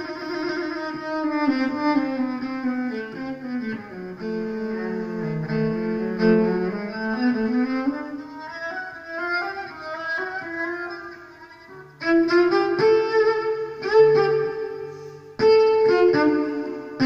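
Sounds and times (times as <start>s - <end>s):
bowed cello melody with reverb: 0.0s - 17.0s.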